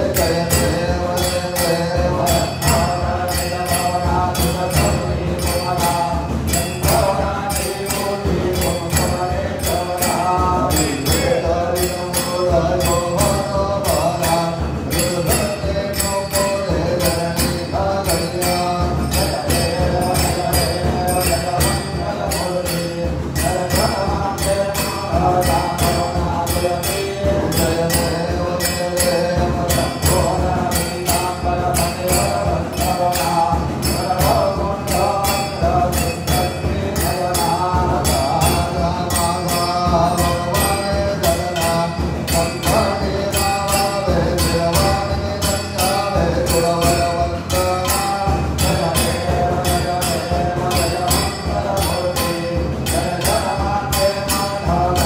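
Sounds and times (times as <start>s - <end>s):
jingling percussion beat: 0.0s - 55.0s
voices singing devotional song: 0.0s - 55.0s.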